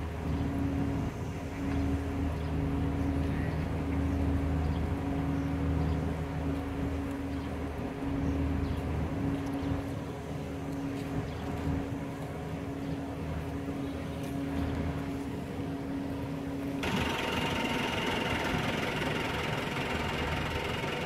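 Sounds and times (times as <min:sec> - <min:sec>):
heavy vehicle engine drone: 0:00.0 - 0:21.0.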